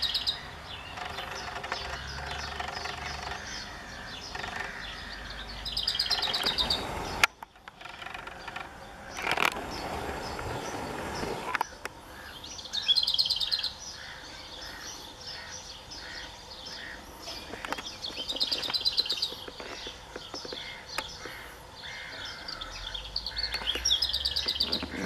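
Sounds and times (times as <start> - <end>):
songbird trilling: 0.0 - 25.0.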